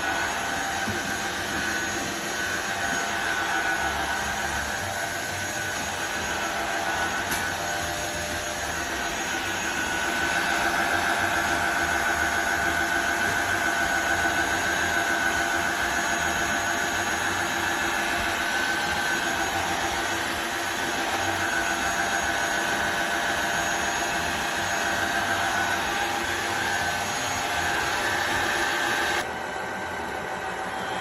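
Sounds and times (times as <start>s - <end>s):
floor cleaner motor whine: 0.0s - 31.0s.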